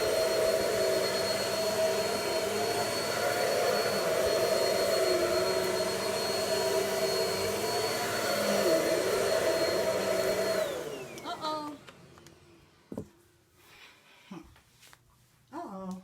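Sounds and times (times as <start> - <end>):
vacuum cleaner whine: 0.0 - 13.1.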